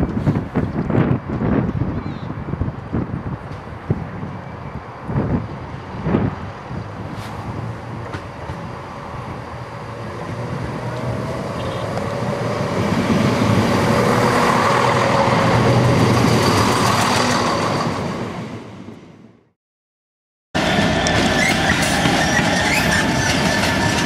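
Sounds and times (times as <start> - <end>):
diesel train engines and wheels: 0.0 - 19.6, 20.6 - 24.0.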